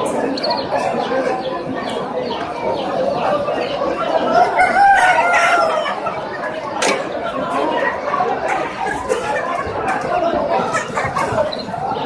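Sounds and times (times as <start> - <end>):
crowded animal market din: 0.0 - 12.0.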